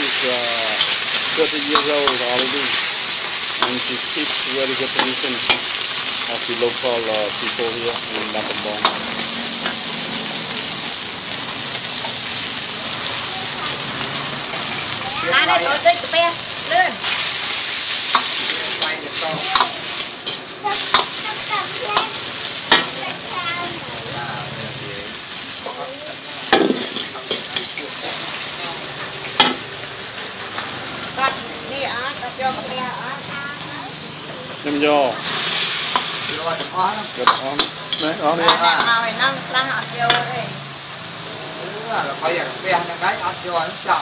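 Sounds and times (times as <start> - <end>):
vegetables sizzling in a wok: 0.0 - 44.0.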